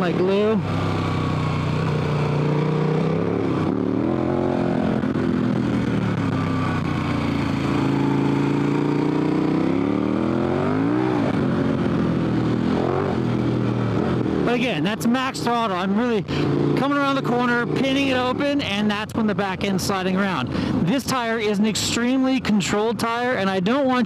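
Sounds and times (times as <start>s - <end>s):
motorcycle engine at full throttle: 0.0s - 24.0s.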